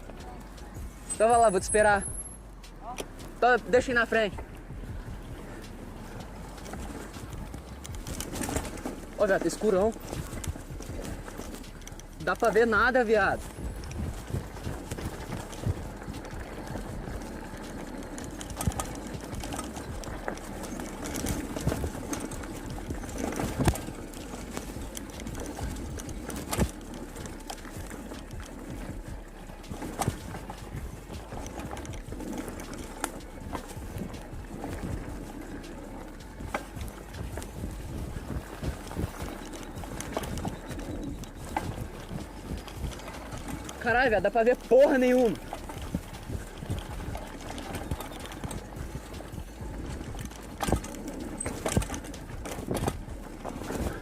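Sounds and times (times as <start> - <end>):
mountain bike rolling and rattling: 0.0 - 54.0.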